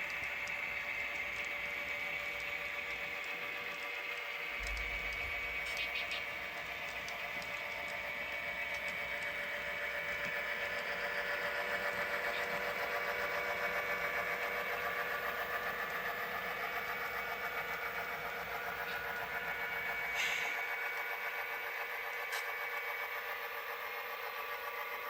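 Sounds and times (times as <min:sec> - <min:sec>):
model train humming and pulsing: 0:00.0 - 0:25.0.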